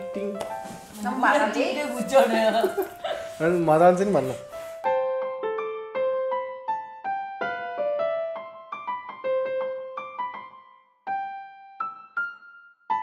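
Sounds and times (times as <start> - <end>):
soft keyboard melody: 0.0 - 13.0.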